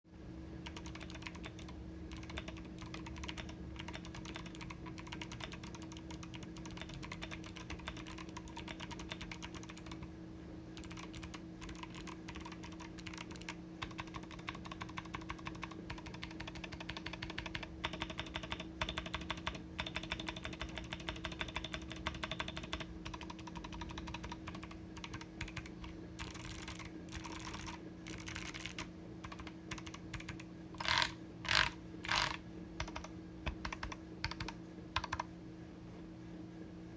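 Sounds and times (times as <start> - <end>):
steady low hum: 0.1 - 36.9
mechanical keyboard typing: 0.6 - 10.1, 10.8 - 35.3.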